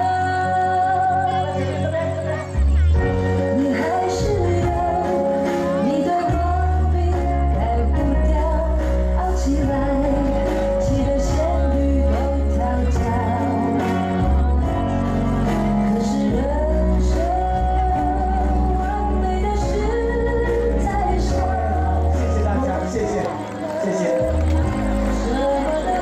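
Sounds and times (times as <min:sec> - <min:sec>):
low bass accompaniment: 0:02.6 - 0:26.0.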